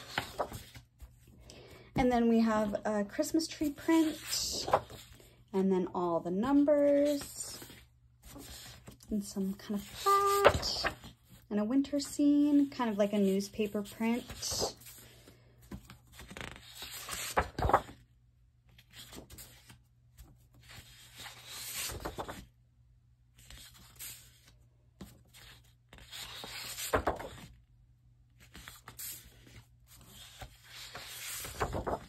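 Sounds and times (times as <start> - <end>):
paper sheets rustling: 0.0 - 1.3, 1.9 - 5.2, 6.5 - 18.0, 18.7 - 22.5, 23.4 - 27.6, 28.4 - 32.0.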